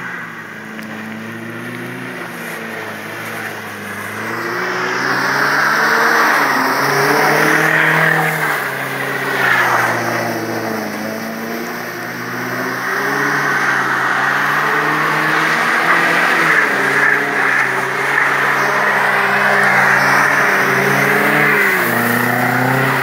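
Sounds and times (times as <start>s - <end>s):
car engine revving: 0.0s - 23.0s
tyres spinning in slush: 0.8s - 23.0s.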